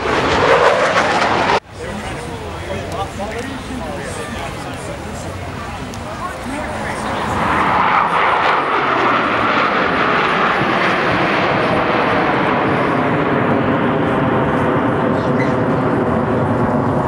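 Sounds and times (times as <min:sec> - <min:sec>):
jets passing overhead: 0:00.0 - 0:17.0.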